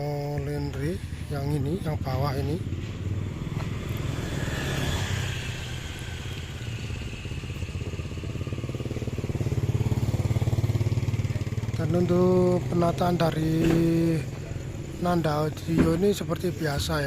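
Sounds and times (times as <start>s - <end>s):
engine running with pulsing hum: 0.2s - 15.0s.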